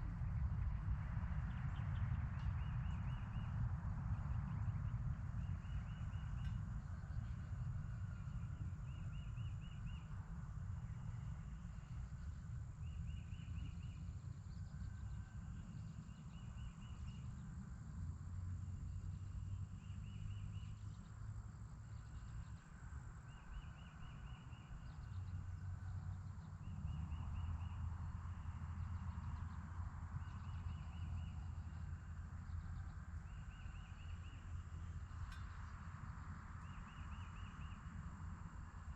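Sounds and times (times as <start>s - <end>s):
low wind rumble: 0.0s - 38.9s.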